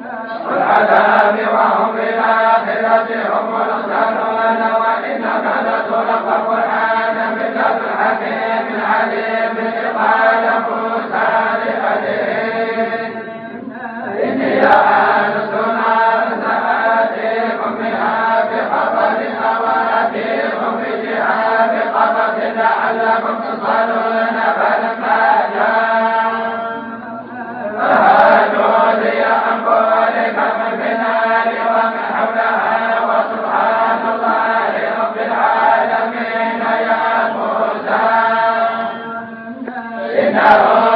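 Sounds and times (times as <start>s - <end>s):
group chanting: 0.0s - 40.9s.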